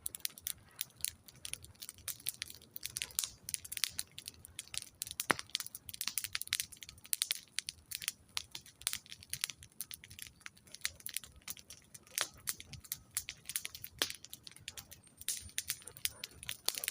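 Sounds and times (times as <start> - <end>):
campfire crackling: 0.0 - 16.9.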